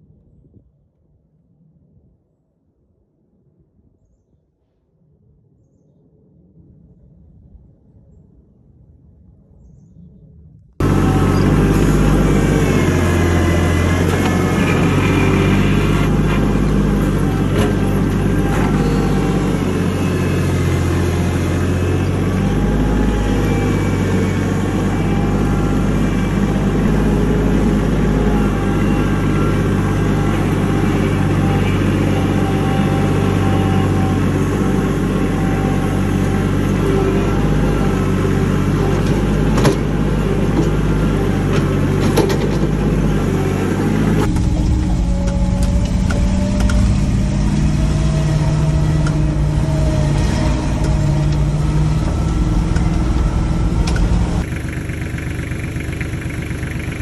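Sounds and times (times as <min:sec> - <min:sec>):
tractor engine running: 0:10.8 - 0:57.0
vehicle engine driving: 0:10.8 - 0:57.0.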